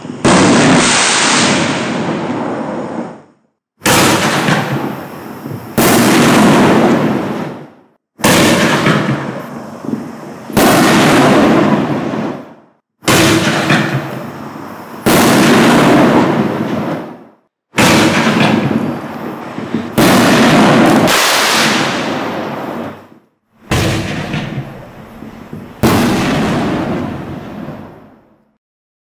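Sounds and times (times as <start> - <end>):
firework mortar launch bang: 0.0 - 28.4
firework shell booming overhead: 0.0 - 28.6.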